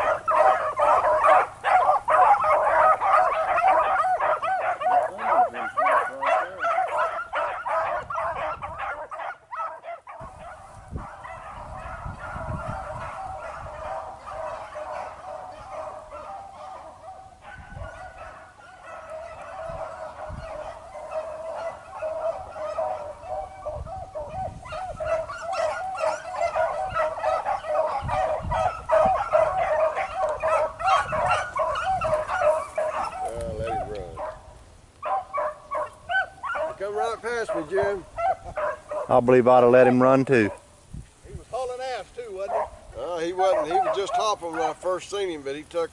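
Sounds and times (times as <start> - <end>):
hounds baying and yelping: 0.0 - 40.8, 41.6 - 45.9.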